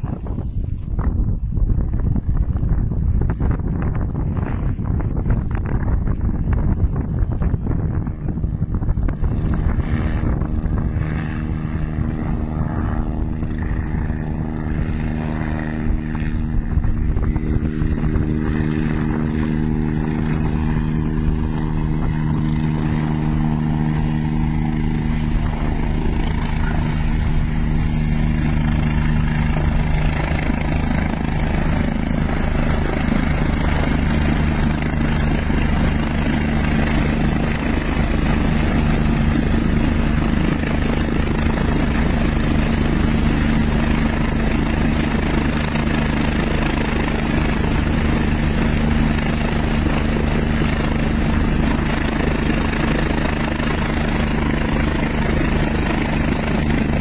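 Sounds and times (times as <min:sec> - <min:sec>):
helicopter rotor and turbines: 0:00.0 - 0:57.0
wind on microphone: 0:00.0 - 0:57.0.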